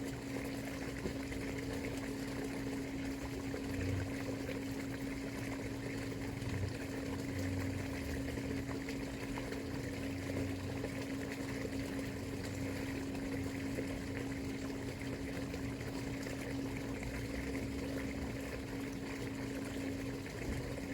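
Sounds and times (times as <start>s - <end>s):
water rushing: 0.0s - 20.9s.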